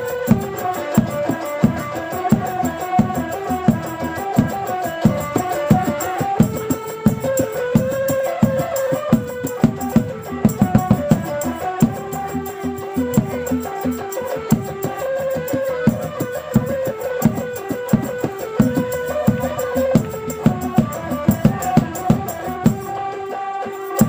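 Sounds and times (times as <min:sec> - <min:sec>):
drums beating: 0:00.0 - 0:24.0
sustained melody line: 0:00.0 - 0:24.0.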